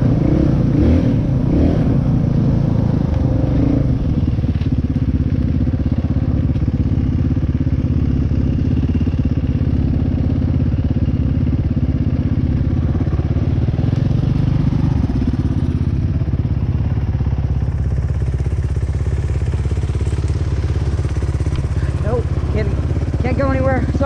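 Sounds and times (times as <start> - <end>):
dirt bike engine at low revs: 0.0 - 24.0.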